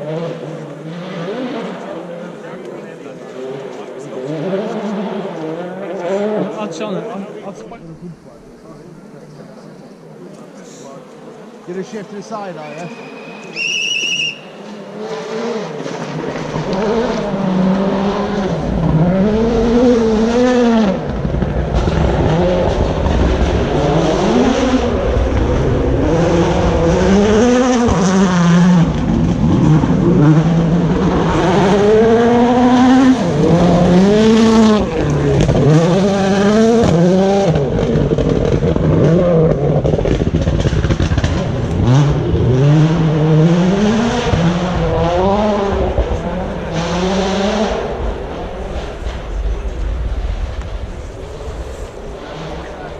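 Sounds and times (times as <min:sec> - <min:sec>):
rally car engine revving: 0:00.0 - 0:52.9.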